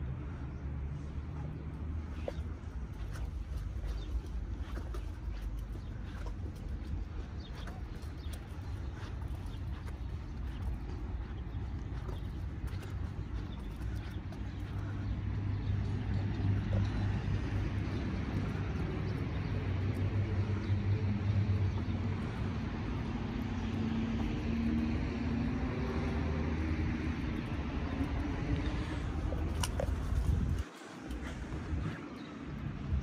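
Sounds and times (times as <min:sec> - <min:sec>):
outdoor noise: 0:00.0 - 0:33.0
vehicle engine humming: 0:00.0 - 0:33.0.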